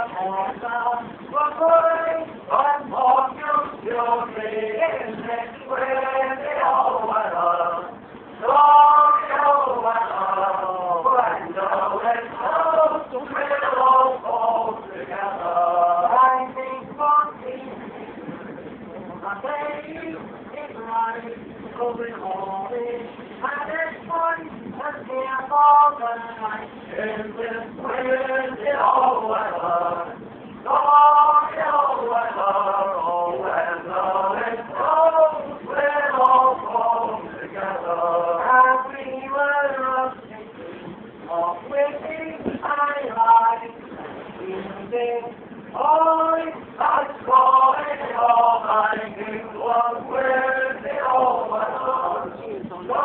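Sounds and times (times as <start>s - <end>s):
men singing chant-like song: 0.0s - 17.6s, 19.3s - 40.5s, 41.3s - 43.8s, 44.4s - 53.0s.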